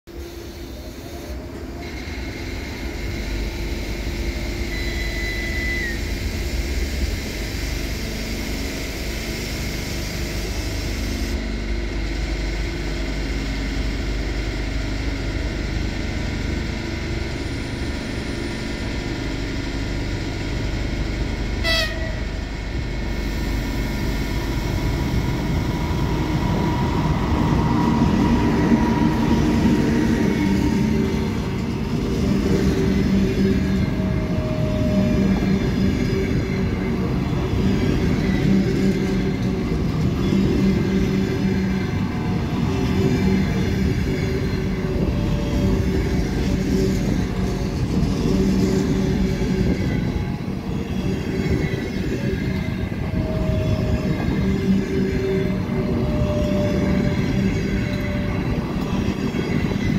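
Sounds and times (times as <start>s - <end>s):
train passing with low rumble: 0.0s - 59.9s.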